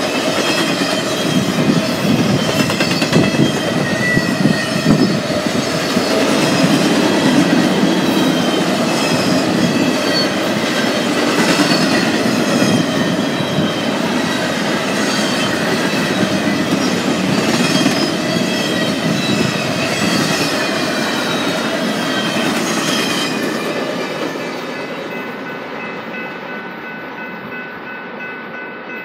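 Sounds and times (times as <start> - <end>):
train wheels rumbling on rails: 0.0 - 28.2.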